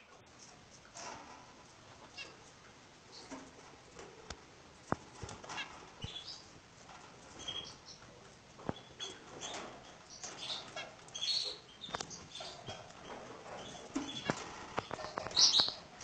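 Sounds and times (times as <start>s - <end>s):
canaries chirping: 0.0s - 16.0s.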